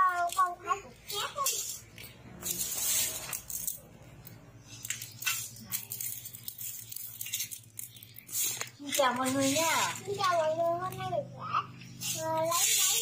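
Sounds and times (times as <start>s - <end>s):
coffee beans rattling in metal basin: 0.0s - 3.9s, 4.8s - 11.2s, 11.9s - 13.0s.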